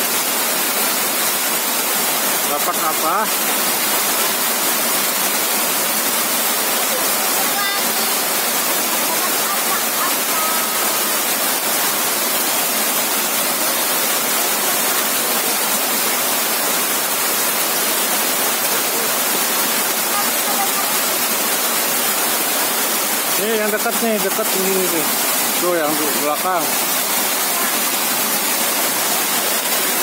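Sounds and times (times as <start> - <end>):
flowing river water: 0.0 - 30.0.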